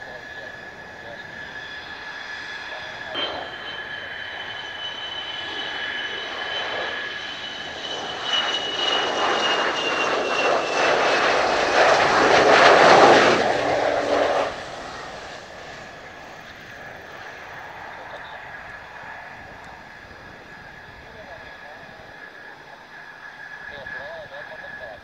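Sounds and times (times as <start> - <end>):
jet engine roar and whine: 0.0 - 25.0.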